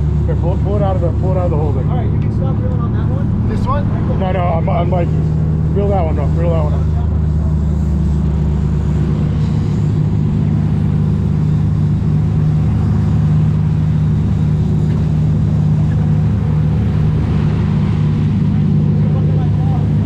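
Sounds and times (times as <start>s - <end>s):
boat engines droning: 0.0s - 20.0s.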